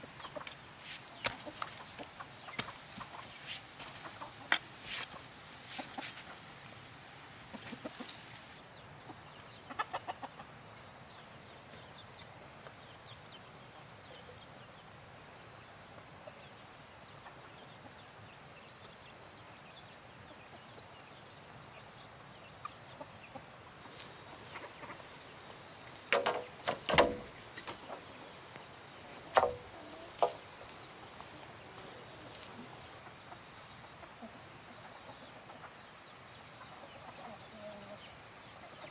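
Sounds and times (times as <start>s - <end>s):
chickens clucking: 0.0s - 6.7s, 7.3s - 12.7s, 16.0s - 19.2s, 21.5s - 38.9s.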